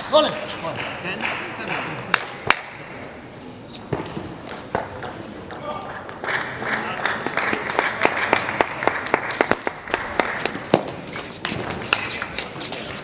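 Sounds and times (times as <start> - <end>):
murmur of hall noise: 0.0 - 13.0.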